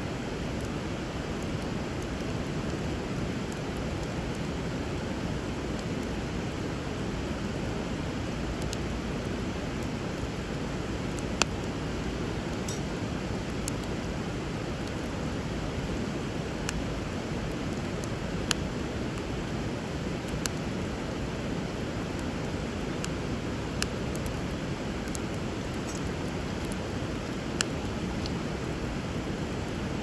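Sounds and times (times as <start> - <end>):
river water flowing: 0.1 - 30.0
wood bonfire crackling: 0.1 - 30.0.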